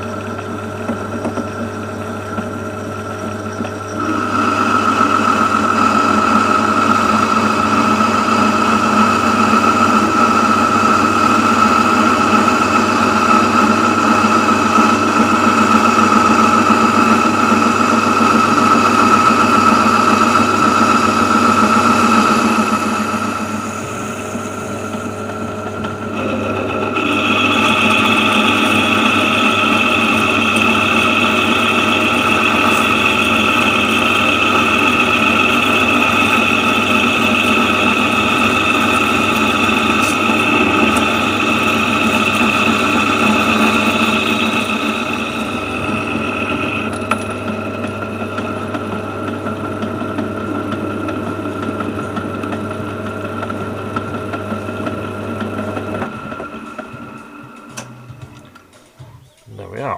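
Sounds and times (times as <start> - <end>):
lathe motor hum: 0.0 - 58.9.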